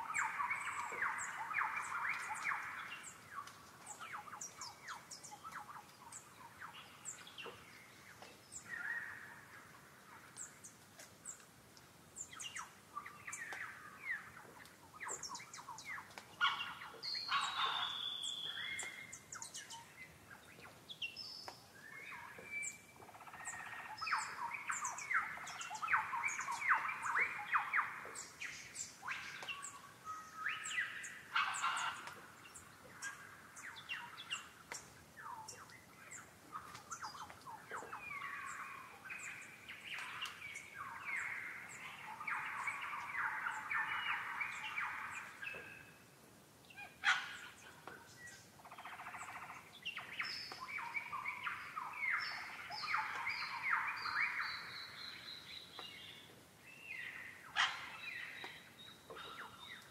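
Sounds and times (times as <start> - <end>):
birds chirping and warbling: 0.0 - 11.5, 12.2 - 59.9.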